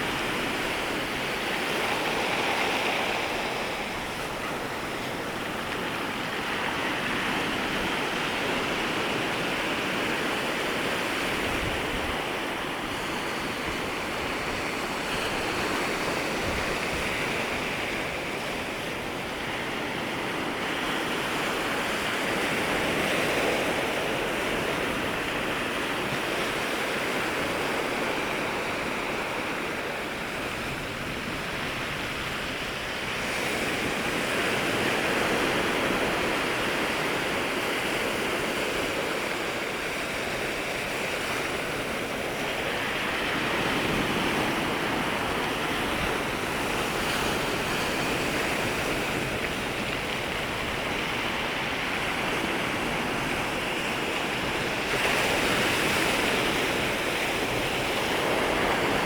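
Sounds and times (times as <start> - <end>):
ocean waves on shore: 0.0 - 59.0.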